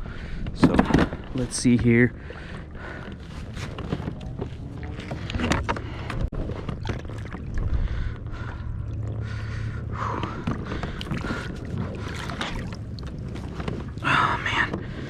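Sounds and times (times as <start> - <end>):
steady low rumble: 0.0 - 15.0
knocks and handling in a kayak: 0.2 - 15.0.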